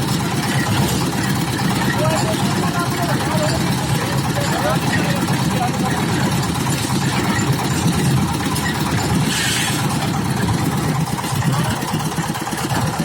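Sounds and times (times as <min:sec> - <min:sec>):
machine engine throbbing: 0:00.0 - 0:13.0.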